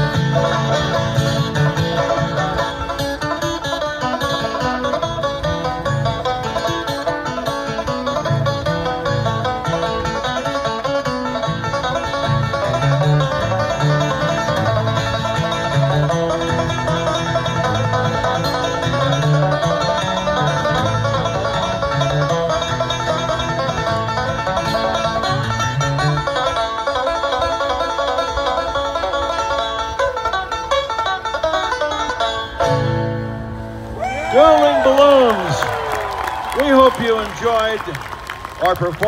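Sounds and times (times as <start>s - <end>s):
banjo picking: 0.0s - 34.5s
guitar picking: 0.0s - 39.0s.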